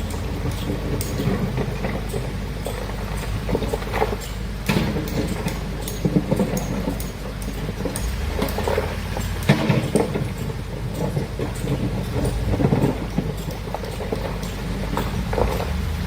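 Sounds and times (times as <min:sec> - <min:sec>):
excavator engine drone: 0:00.0 - 0:16.0
metallic clanks and knocks: 0:00.0 - 0:16.0.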